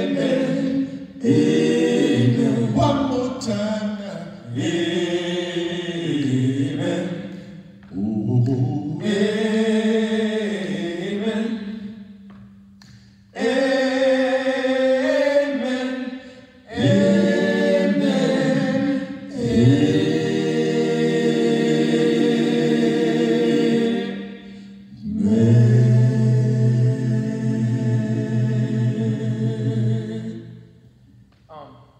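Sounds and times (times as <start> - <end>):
male quartet singing a cappella: 0.0 - 12.2, 12.8 - 31.0.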